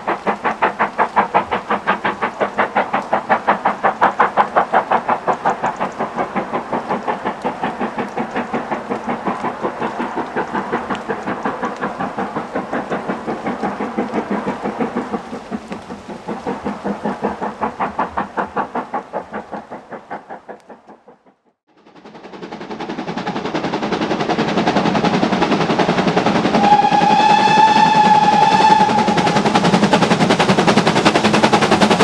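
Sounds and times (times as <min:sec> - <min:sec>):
steam locomotive exhaust beating: 0:00.0 - 0:32.0.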